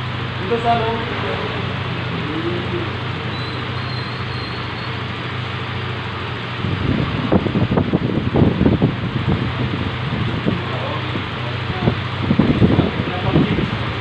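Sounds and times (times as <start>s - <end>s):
loud uneven low pulses: 0.0s - 14.0s
scooter engine idling: 0.0s - 14.0s.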